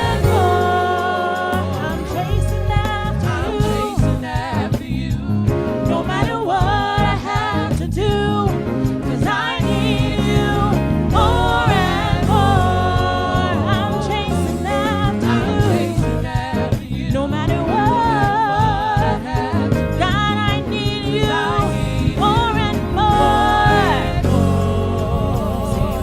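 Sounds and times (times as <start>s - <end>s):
gospel worship singing: 0.0s - 26.0s
instrumental backing: 0.0s - 26.0s.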